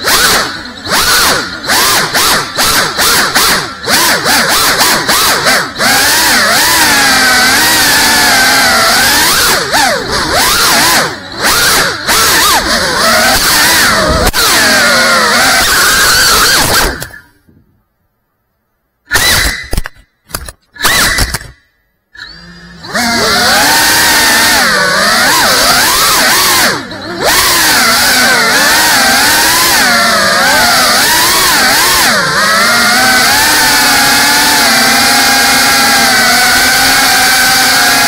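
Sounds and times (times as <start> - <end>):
drone propellers whining: 0.0 - 18.0, 19.1 - 38.0.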